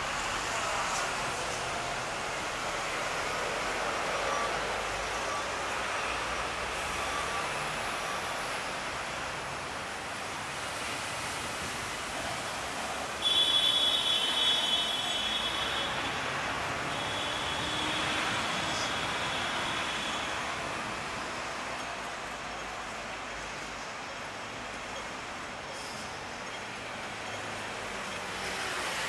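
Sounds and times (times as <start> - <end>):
city street traffic: 0.0 - 29.0
tram running on rails: 0.0 - 29.0
steel wheels squealing on rail: 0.5 - 9.3, 12.2 - 23.8, 24.5 - 29.0.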